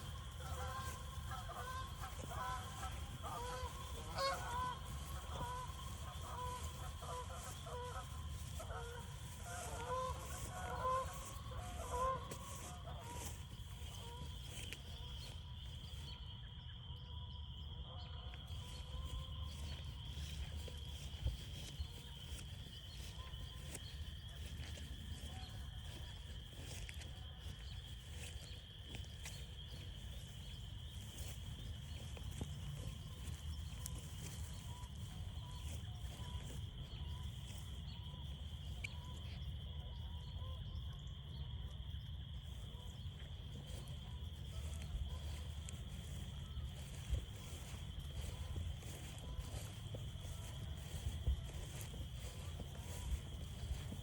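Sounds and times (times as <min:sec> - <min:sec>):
frog chorus trilling: 0:00.0 - 0:54.0.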